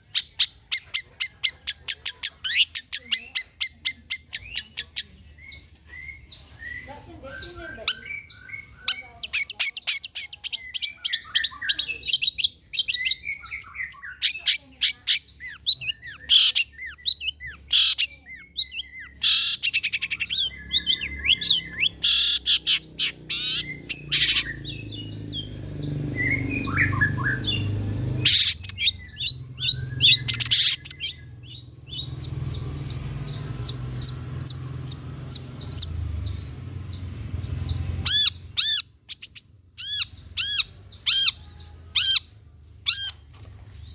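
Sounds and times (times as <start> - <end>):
bird chattering song: 0.0 - 43.9.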